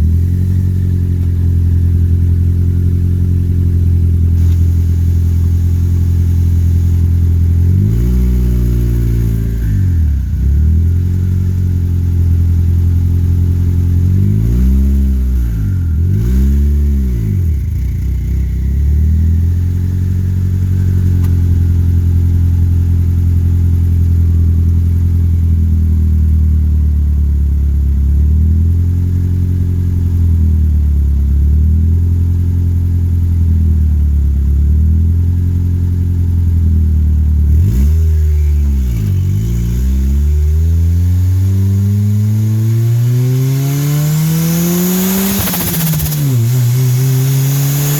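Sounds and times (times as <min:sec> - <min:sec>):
car engine running while driving: 0:00.0 - 0:47.9.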